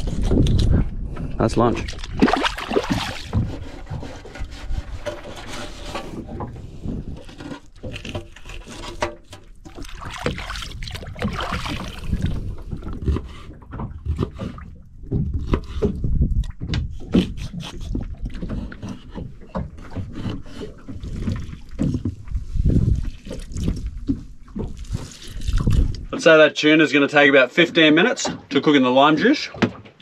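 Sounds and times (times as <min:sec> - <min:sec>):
water lapping against boat hull: 0:00.0 - 0:30.0.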